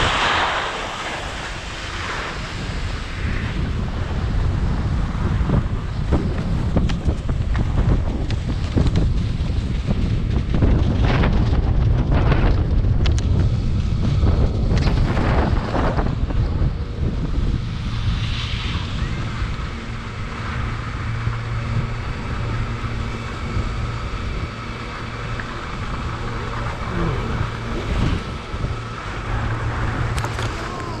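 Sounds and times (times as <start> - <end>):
faint steady hum: 0.0 - 31.0
wind buffeting microphone: 0.0 - 31.0.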